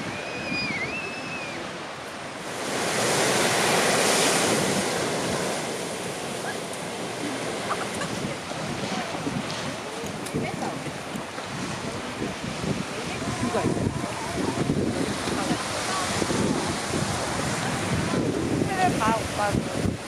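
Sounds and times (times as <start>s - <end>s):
waves breaking on shore: 0.0s - 20.0s
wind on microphone: 0.0s - 20.0s.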